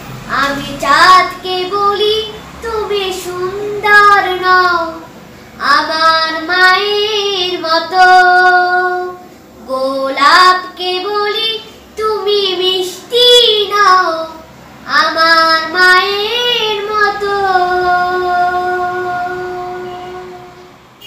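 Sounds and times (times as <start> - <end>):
boy singing solo: 0.3 - 20.7.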